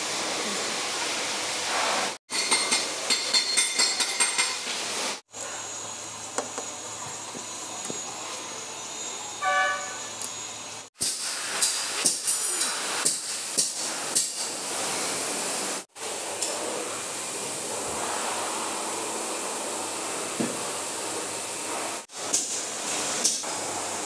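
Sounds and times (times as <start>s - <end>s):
steady workshop hiss: 0.0s - 24.0s.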